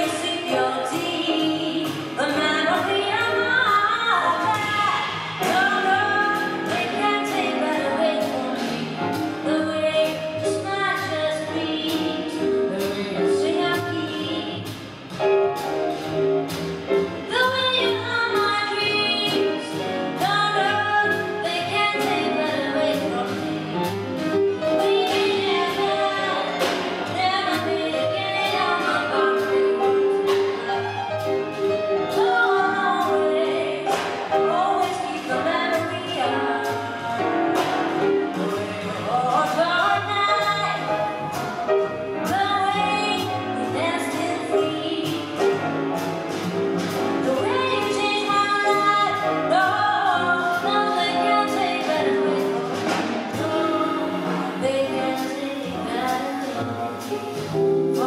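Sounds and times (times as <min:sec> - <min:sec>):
double bass: 0:00.0 - 0:58.0
piano: 0:00.0 - 0:58.0
woman singing jazz: 0:00.0 - 0:58.0.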